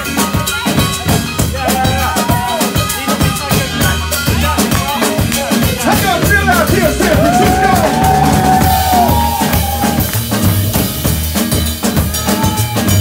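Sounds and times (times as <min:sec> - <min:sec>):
drum kit beat: 0:00.0 - 0:13.0
live soul band playing: 0:00.0 - 0:13.0.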